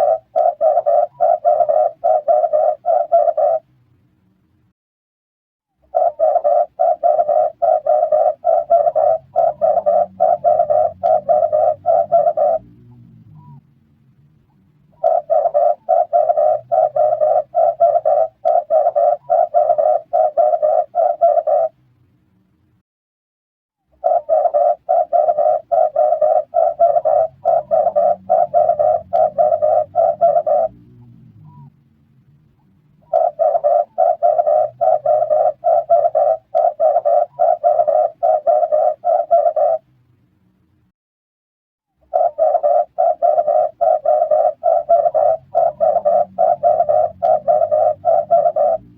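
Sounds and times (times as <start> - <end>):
dove cooing: 0.0 - 3.6, 5.9 - 13.6, 14.9 - 21.8, 24.0 - 31.7, 33.0 - 39.8, 42.0 - 48.9.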